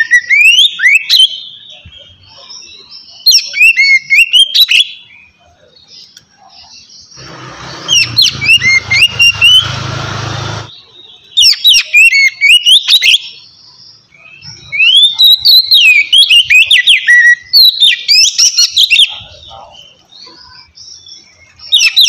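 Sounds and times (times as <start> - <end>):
magpie-robin singing: 0.0 - 22.0.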